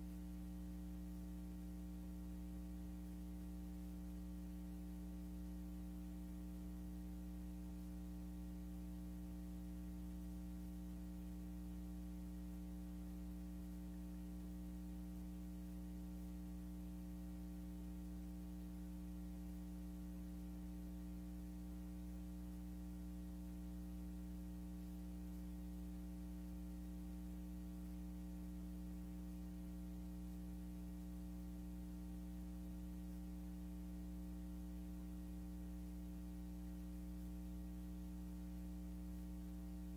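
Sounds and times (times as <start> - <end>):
faint hiss: 0.0 - 39.9
mains hum: 0.0 - 39.9.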